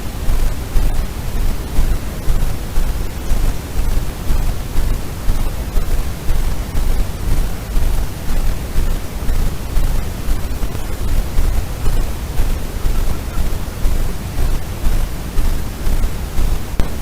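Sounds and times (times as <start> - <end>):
steady low rushing noise: 0.0 - 17.0.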